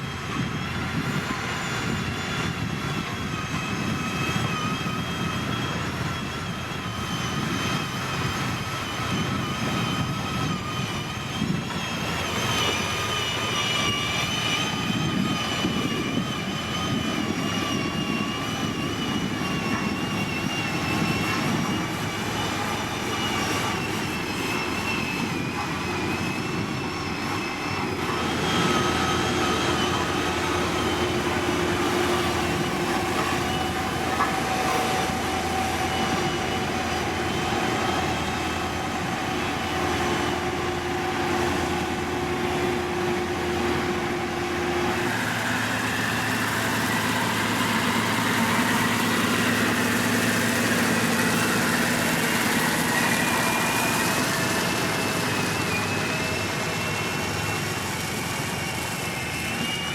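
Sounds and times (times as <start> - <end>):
diesel engines droning: 0.0 - 59.9
machinery whining: 0.0 - 59.9.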